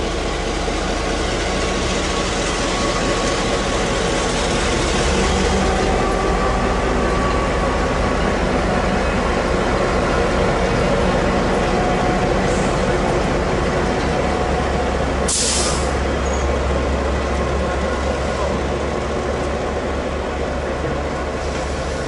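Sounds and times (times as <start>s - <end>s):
diesel locomotive engine: 0.0s - 22.0s
train rumbling on rails: 0.0s - 22.0s.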